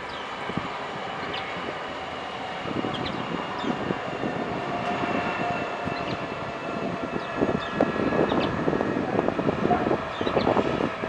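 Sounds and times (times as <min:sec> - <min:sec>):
jet engines whining: 0:00.0 - 0:11.0.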